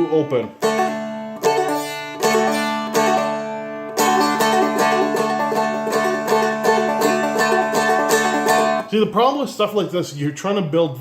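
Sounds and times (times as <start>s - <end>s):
dulcimer strumming: 0.0s - 9.4s.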